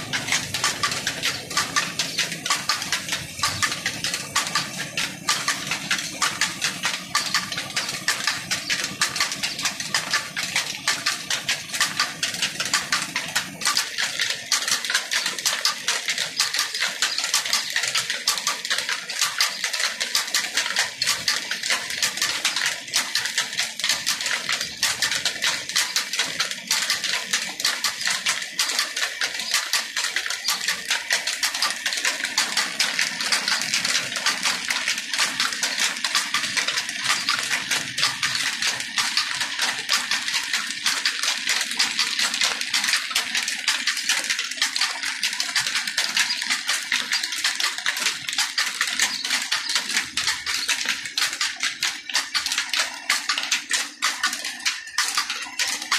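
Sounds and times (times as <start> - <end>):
flour mill metallic clatter: 0.0 - 55.9.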